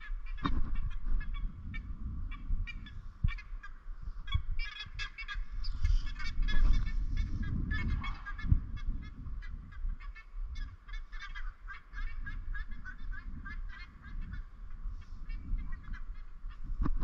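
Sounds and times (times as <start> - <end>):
birds honking: 0.0 - 16.6
wind on microphone: 0.0 - 17.0.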